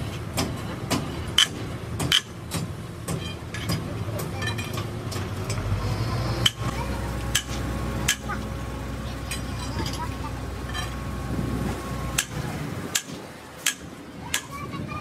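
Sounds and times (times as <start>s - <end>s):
low motor hum: 0.0s - 14.8s.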